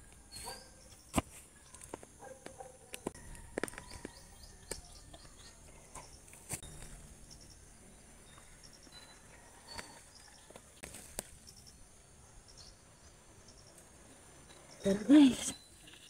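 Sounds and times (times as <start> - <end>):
faint bird chirps: 0.2 - 1.9, 3.3 - 16.0.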